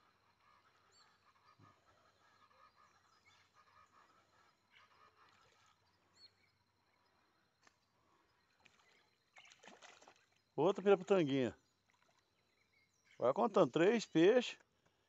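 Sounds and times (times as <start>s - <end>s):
faint bird calls: 0.0s - 14.4s.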